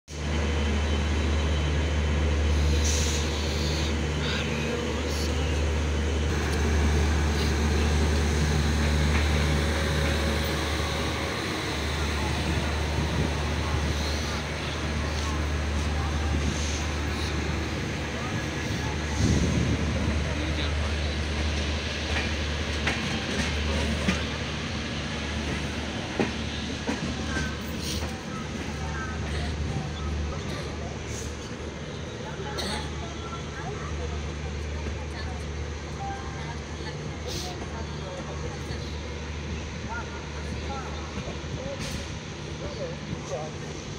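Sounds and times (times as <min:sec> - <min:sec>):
train coach hum and rumble: 0:00.1 - 0:43.9.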